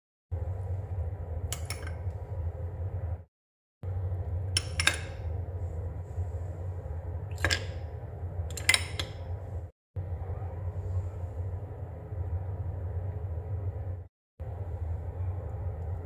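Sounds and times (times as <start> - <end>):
steady low hum: 0.3 - 16.0.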